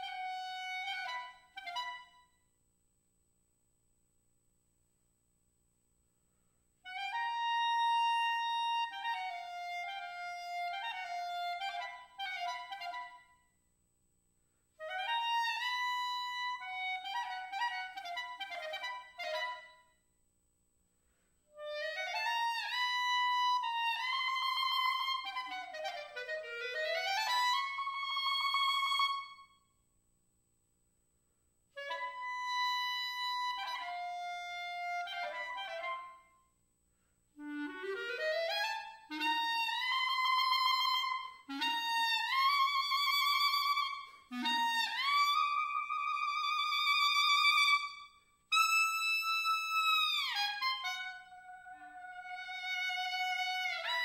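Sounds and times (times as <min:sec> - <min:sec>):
solo clarinet: 0:00.0 - 0:02.4, 0:06.8 - 0:13.6, 0:14.8 - 0:20.0, 0:21.5 - 0:29.6, 0:31.7 - 0:36.5, 0:37.3 - 0:54.0.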